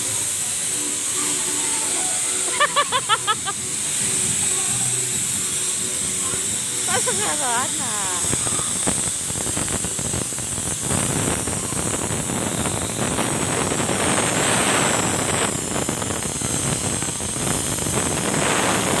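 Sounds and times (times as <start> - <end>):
rushing hiss of noise: 0.0 - 19.0.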